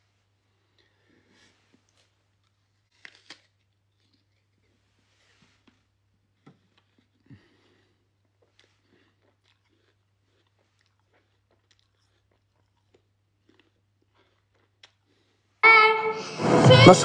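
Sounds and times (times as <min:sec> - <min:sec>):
quiet chewing: 0:00.4 - 0:15.6.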